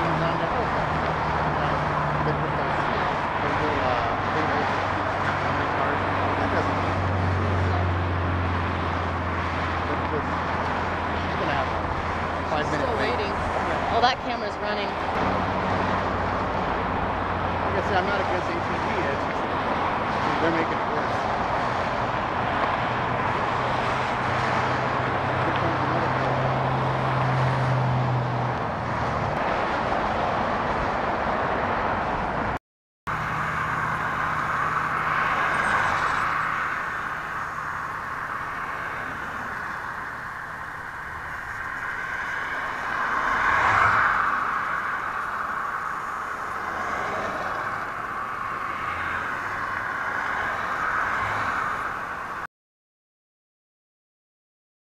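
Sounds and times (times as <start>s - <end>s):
low engine hum: 0.0s - 49.0s
passing cars: 0.0s - 52.5s.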